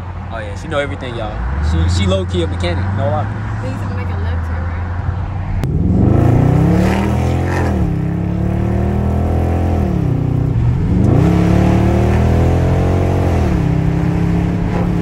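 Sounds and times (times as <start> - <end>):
car engine accelerating: 0.5 - 15.0.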